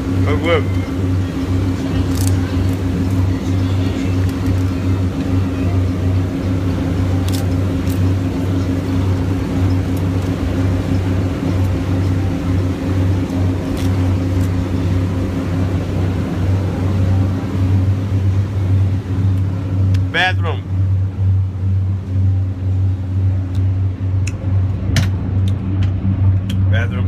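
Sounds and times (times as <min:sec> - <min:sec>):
continuous water rushing: 0:00.0 - 0:22.8
boat engines droning: 0:00.0 - 0:27.0.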